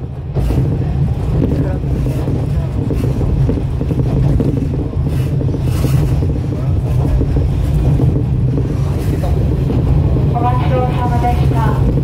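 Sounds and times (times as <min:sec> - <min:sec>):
railcar engine drone: 0:00.0 - 0:12.0
wheels rumbling on track: 0:00.0 - 0:12.0.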